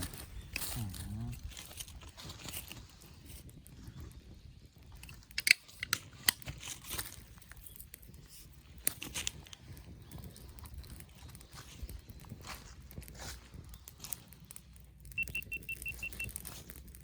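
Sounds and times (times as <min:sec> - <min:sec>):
wood cracking in fire: 0:00.0 - 0:17.0.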